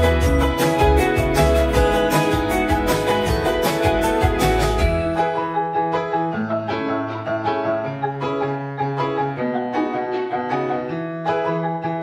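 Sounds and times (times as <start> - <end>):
instrumental keyboard music: 0.0 - 12.0.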